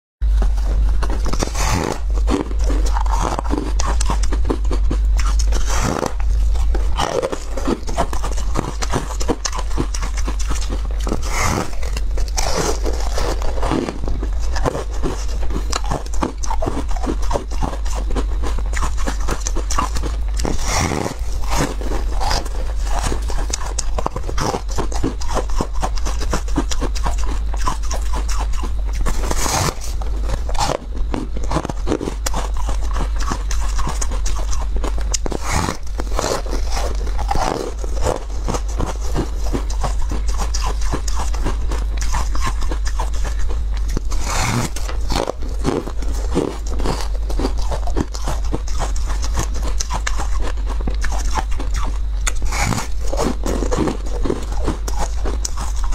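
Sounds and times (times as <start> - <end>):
crunchy biting and chewing: 0.2 - 55.9.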